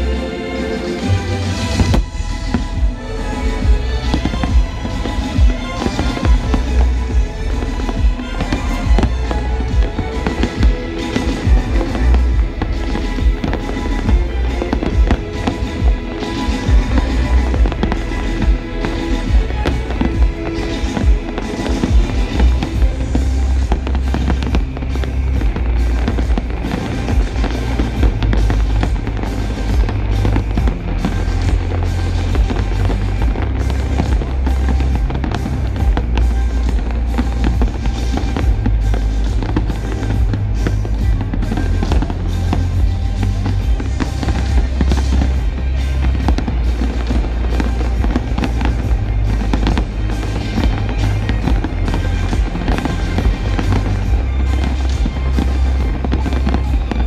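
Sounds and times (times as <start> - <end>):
fireworks bursting and crackling: 0.0 - 57.0
loud music with heavy bass: 0.0 - 57.0.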